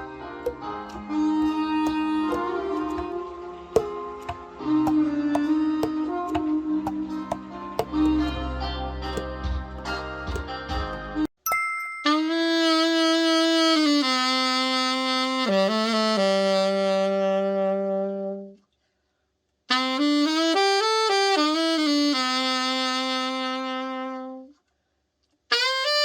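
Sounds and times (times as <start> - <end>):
alto saxophone playing: 0.0 - 9.3, 12.0 - 18.6, 19.7 - 24.6, 25.5 - 26.0.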